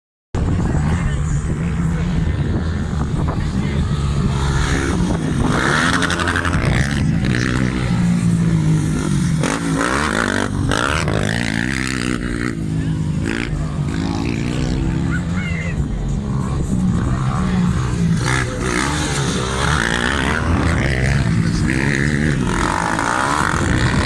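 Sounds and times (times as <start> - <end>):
motorcycle engines running: 0.4 - 24.0.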